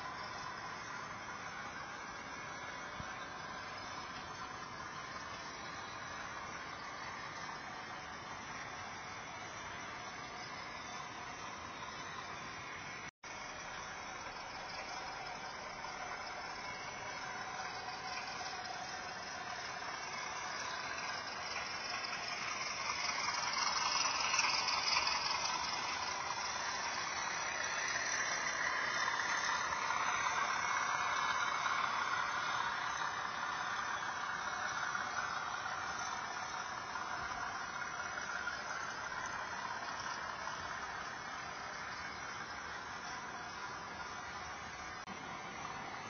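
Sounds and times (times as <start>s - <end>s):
model train rattling past: 0.0s - 46.0s.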